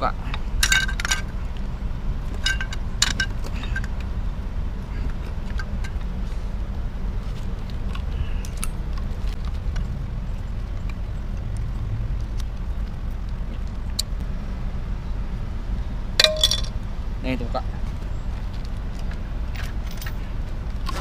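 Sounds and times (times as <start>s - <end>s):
low rumble: 0.0s - 17.2s.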